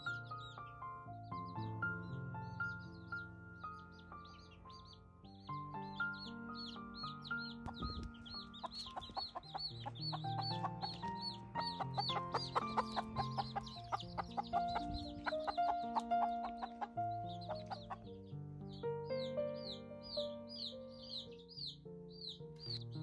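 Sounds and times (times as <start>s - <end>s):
baby chicks peeping: 0.0s - 23.0s
instrumental music: 0.0s - 23.0s.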